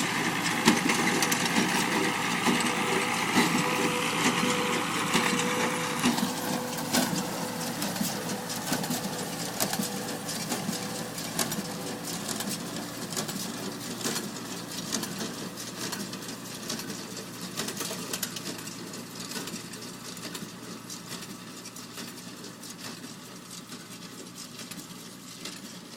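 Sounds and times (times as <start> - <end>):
hay baler clattering: 0.0 - 25.9.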